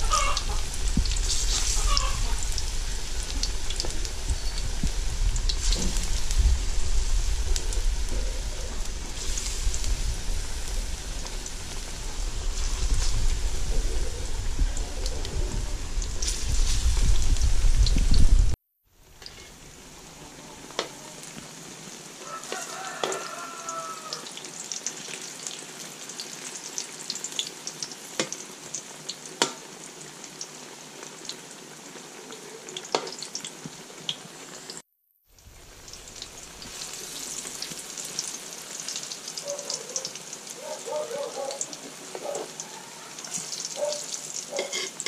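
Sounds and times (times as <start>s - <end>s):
banana slices sizzling in oil: 0.0s - 45.0s.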